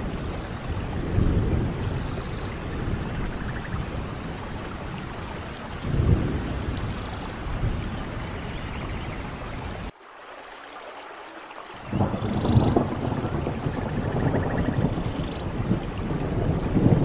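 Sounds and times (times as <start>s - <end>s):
low rumble of thunder: 0.0s - 9.9s, 11.8s - 17.0s
steady rain: 0.0s - 17.0s.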